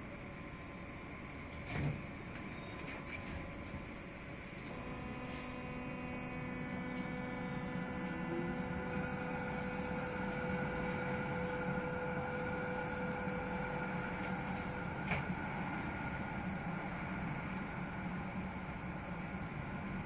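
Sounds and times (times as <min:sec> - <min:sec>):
tram electrical hum: 0:00.0 - 0:20.0.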